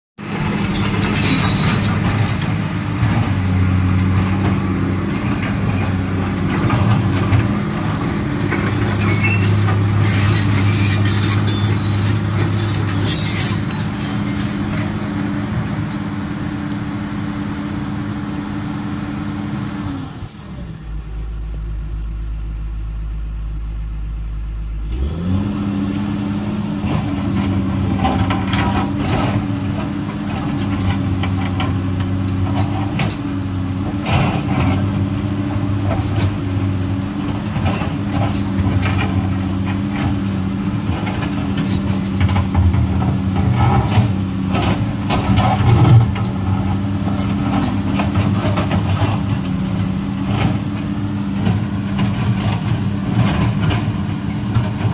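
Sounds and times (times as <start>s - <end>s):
excavator diesel engine: 0.2s - 54.9s.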